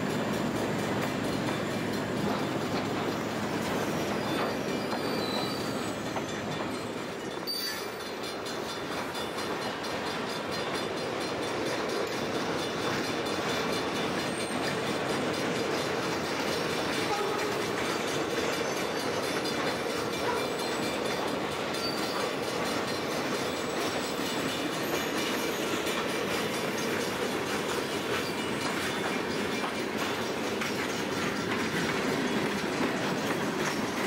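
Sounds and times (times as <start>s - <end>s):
freight train cars rolling: 0.0s - 34.0s.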